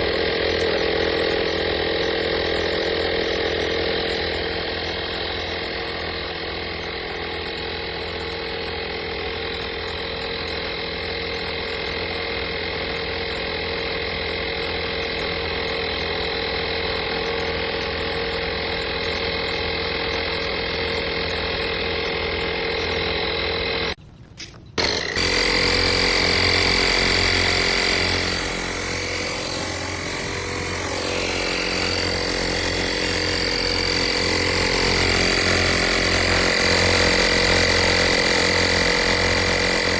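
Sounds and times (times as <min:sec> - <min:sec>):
tire inflator compressor droning: 0:00.0 - 0:39.9.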